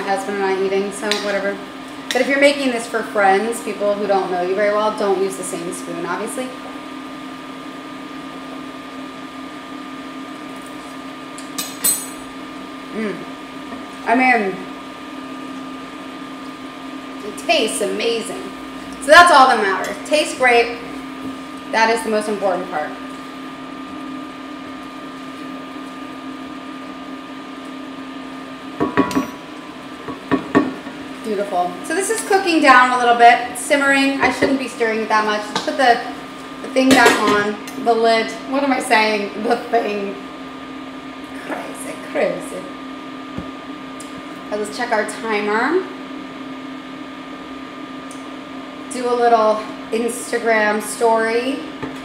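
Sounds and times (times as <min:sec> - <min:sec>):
cooling fan whirring hum: 0:00.0 - 0:52.0.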